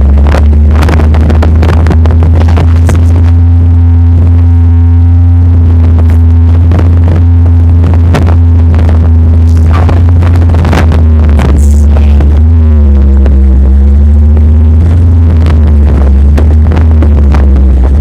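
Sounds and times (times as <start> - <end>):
hum tones: 0.0 - 18.0
vehicle engine drone: 0.0 - 18.0.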